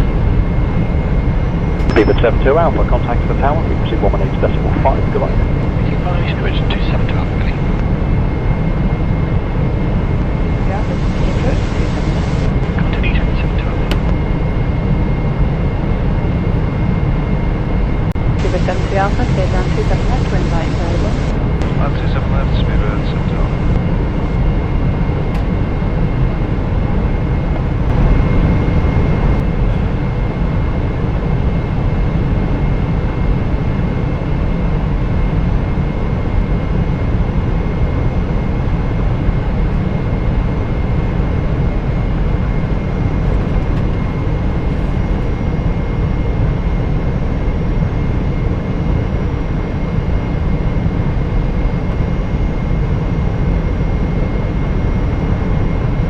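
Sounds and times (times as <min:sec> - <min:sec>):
airplane cabin engine rumble: 0:00.0 - 0:56.0
faint high whine: 0:00.0 - 0:56.0.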